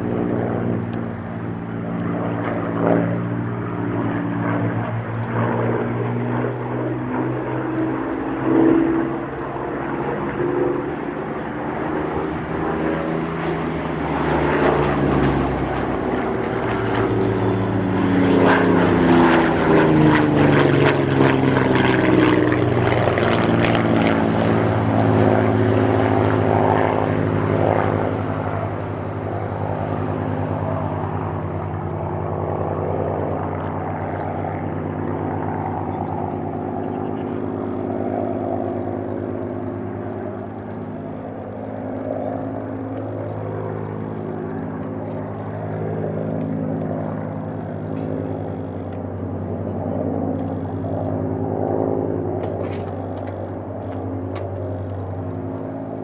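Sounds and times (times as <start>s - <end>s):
propeller aircraft flying past: 0.0s - 56.0s.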